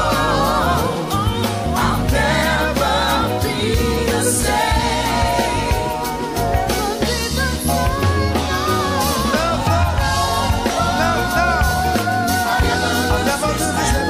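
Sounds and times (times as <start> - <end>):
soul band playing: 0.0 - 14.0.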